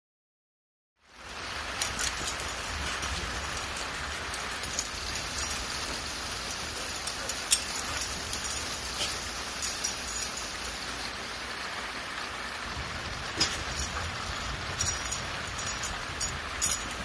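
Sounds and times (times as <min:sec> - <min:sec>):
steady rain falling: 0:01.0 - 0:17.0
raindrops ticking: 0:01.2 - 0:17.0.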